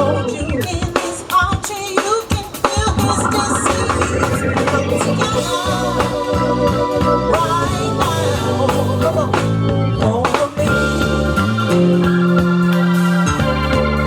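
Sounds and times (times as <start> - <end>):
drums: 0.0 - 14.0
organ: 2.7 - 14.0.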